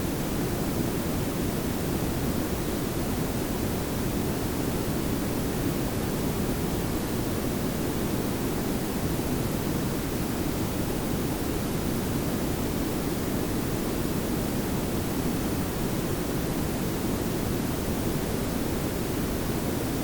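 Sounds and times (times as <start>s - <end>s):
pink and brown noise: 0.0s - 20.0s.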